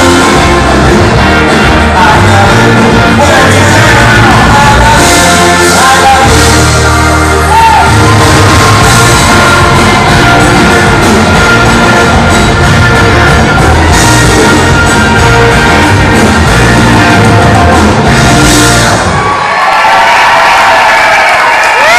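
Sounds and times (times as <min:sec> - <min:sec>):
live rock band with singer: 0:00.0 - 0:19.4.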